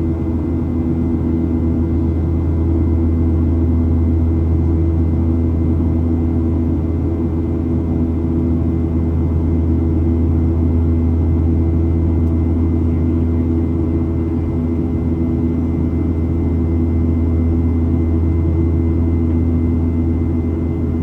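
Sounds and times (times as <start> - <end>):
airplane cabin drone: 0.0 - 21.0.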